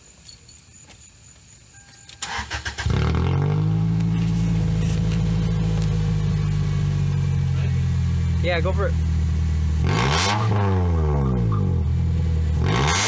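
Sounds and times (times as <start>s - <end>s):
car engine starting and idling: 2.0s - 13.0s.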